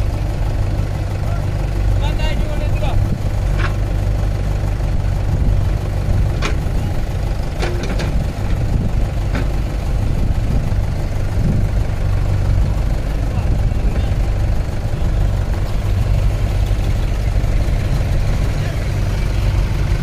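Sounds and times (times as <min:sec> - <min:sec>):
diesel engines running: 0:00.0 - 0:20.0.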